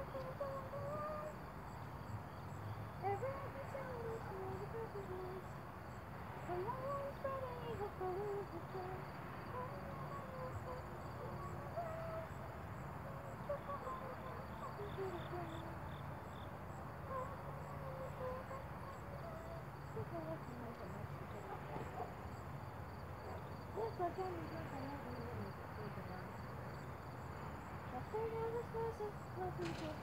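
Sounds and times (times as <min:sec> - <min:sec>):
crickets chirping: 0:00.0 - 0:30.0
steady low background noise: 0:00.0 - 0:30.0.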